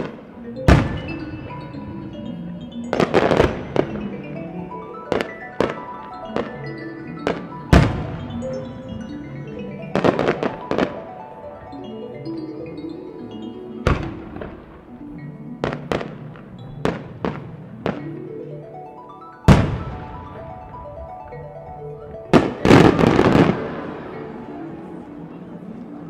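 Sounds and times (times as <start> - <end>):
background music with sustained tones: 0.0 - 26.0.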